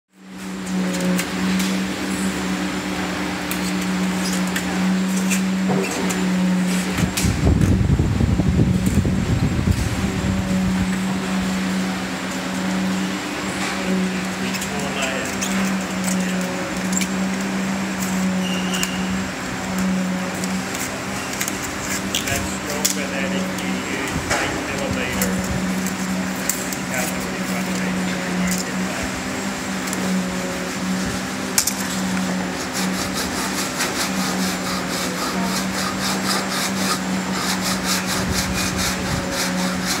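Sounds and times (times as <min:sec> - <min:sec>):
constant rushing noise: 0:00.1 - 0:40.0
low machine hum: 0:00.1 - 0:40.0
sanding block rubbing wood: 0:00.4 - 0:07.2, 0:10.0 - 0:40.0.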